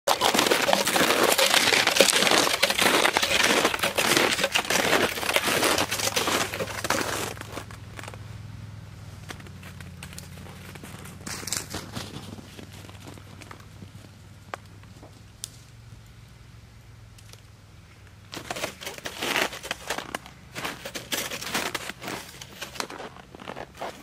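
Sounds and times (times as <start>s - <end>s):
footsteps crunching in snow: 0.1s - 8.2s, 9.1s - 15.2s, 18.3s - 24.0s.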